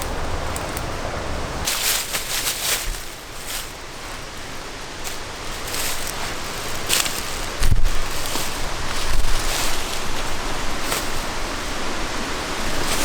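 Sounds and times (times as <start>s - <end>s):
dry leaves rustling: 0.0s - 13.0s
low wind rumble: 0.0s - 13.0s.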